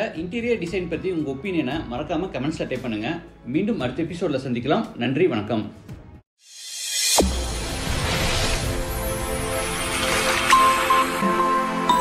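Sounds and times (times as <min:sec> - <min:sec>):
background music: 0:00.0 - 0:06.2, 0:07.1 - 0:12.0.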